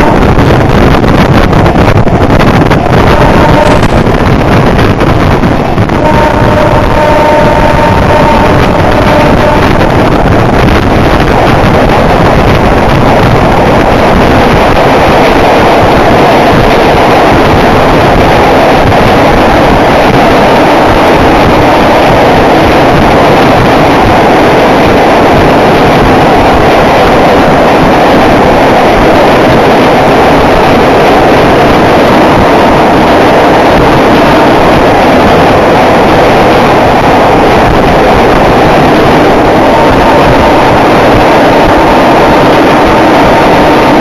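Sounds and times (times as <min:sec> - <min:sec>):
train rolling over steel bridge: 0:00.0 - 0:44.0.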